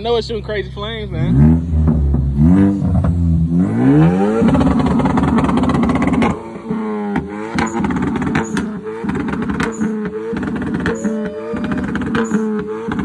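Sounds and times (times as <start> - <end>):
car engine revving: 0.0 - 13.0
sharp exhaust pops: 1.5 - 3.6, 4.2 - 13.0.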